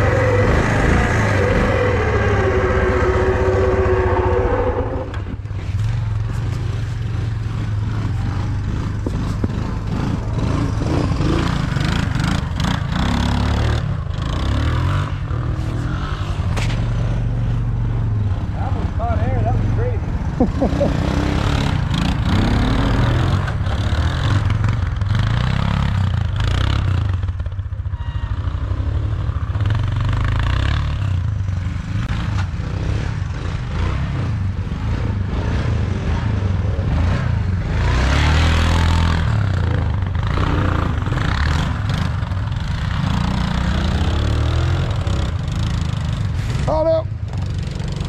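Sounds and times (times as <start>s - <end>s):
small off-road engine revving: 0.0s - 48.0s.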